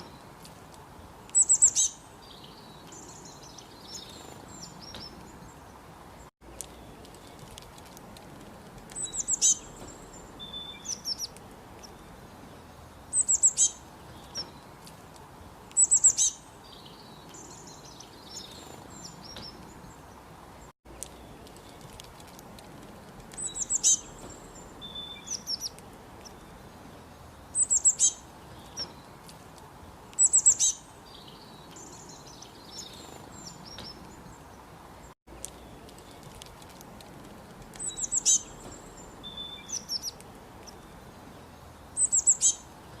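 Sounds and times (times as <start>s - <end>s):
steady background hiss: 0.0s - 43.0s
small bird chirping: 1.2s - 5.8s, 8.9s - 15.0s, 15.7s - 29.2s, 30.1s - 43.0s.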